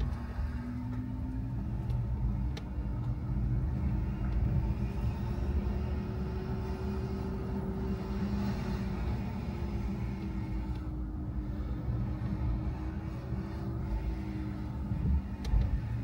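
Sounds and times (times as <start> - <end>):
car engine: 0.0 - 16.0
road rumble: 0.0 - 16.0.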